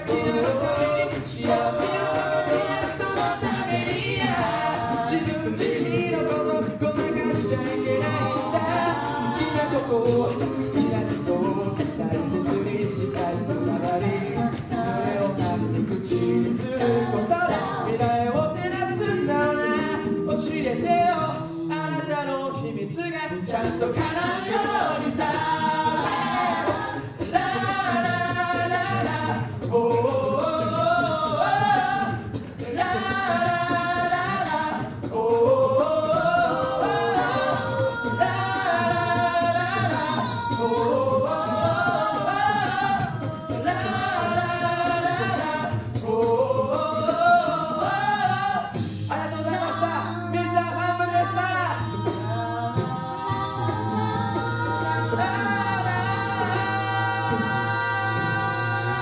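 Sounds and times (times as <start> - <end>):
a cappella group singing: 0.0 - 59.0.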